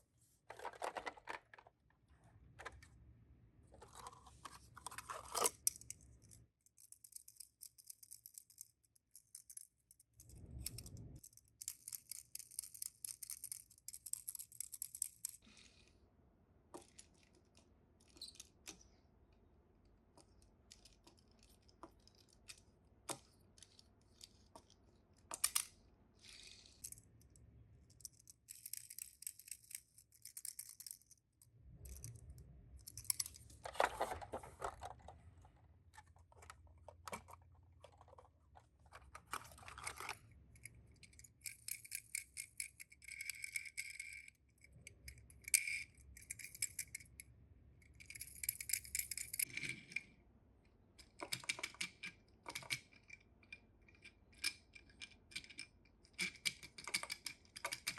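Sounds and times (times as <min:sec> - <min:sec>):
toy cars clicking and rattling: 0:03.8 - 0:15.9, 0:20.2 - 0:35.1, 0:36.0 - 0:50.0, 0:51.0 - 0:57.9.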